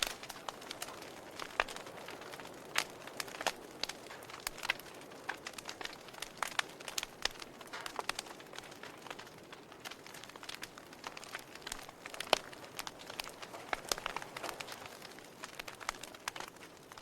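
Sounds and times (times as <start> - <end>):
soft fire hiss: 0.0 - 17.0
wood fire crackling and popping: 0.0 - 17.0.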